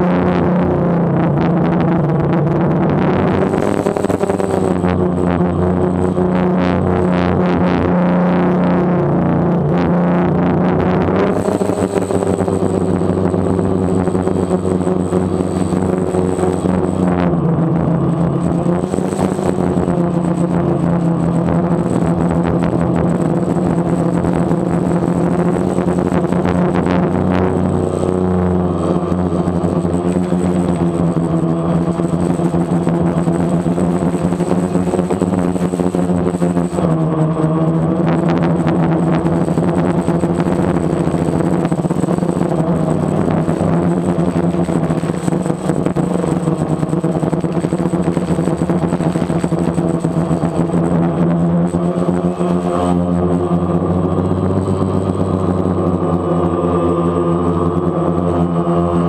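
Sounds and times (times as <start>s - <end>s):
quadcopter drone whining: 0.0s - 59.0s.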